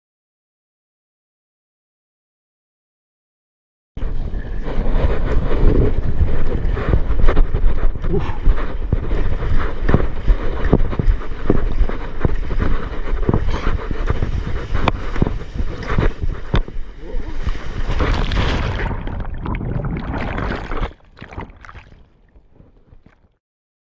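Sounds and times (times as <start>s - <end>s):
wind buffeting microphone: 4.0s - 23.3s
water slapping paddleboard: 4.1s - 23.3s.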